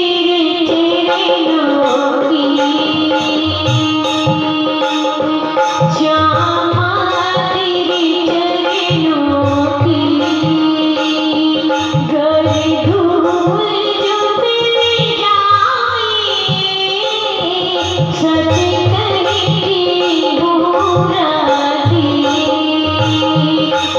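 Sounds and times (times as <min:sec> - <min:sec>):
devotional music: 0:00.0 - 0:23.9
hand drums beating: 0:00.8 - 0:23.9.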